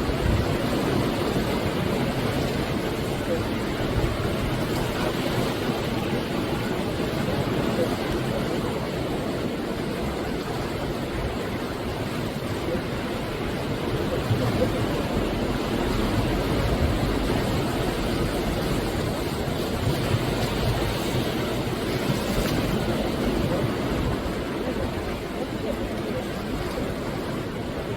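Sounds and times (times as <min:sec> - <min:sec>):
sea waves breaking on shore: 0:00.0 - 0:27.9.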